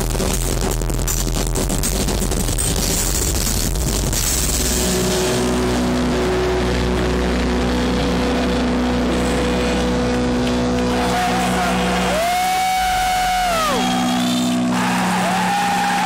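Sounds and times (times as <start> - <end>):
deep bass hum: 0.0 - 16.0
distorted electric guitars: 0.0 - 16.0
drums: 0.0 - 16.0.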